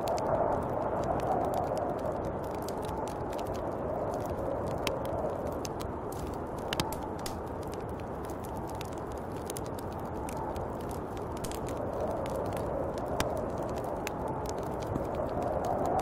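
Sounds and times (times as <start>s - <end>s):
howling snowstorm wind: 0.0s - 16.0s
small sharp ticks and crackles: 0.0s - 16.0s.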